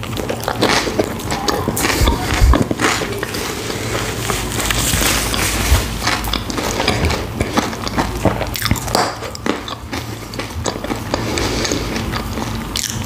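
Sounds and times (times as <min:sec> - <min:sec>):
crunchy sandwich chewing: 0:00.0 - 0:13.0
wet mouth sounds: 0:00.0 - 0:13.0.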